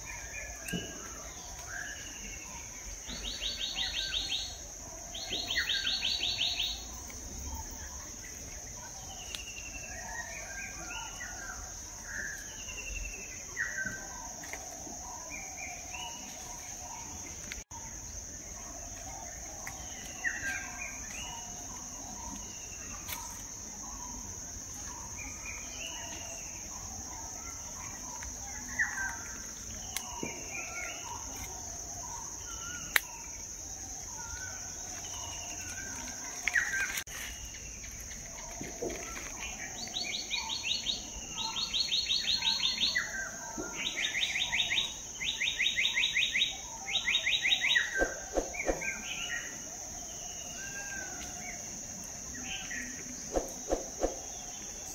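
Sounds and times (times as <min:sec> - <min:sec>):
birds chirping: 0:00.0 - 0:54.9
high insect drone: 0:00.0 - 0:54.9.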